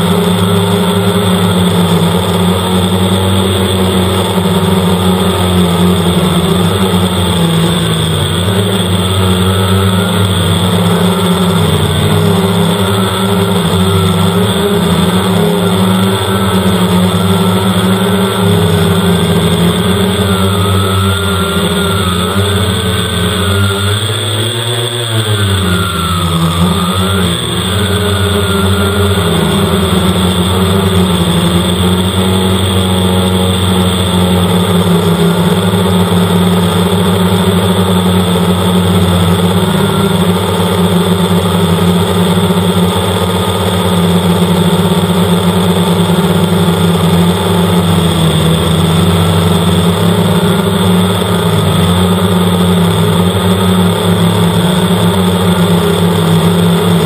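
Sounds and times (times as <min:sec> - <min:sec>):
drone propellers whirring: 0:00.0 - 0:57.0.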